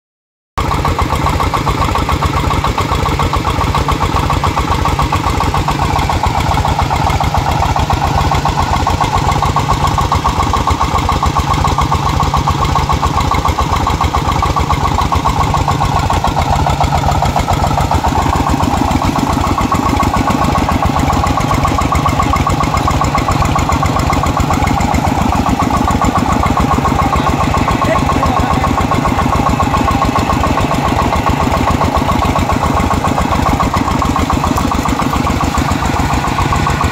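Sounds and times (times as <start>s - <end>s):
single-cylinder diesel engine running: 0.6s - 36.9s.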